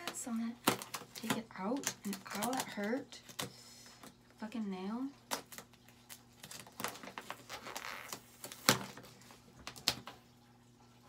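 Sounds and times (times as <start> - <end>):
packaging rustling and crinkling: 0.0 - 4.2, 5.2 - 10.2.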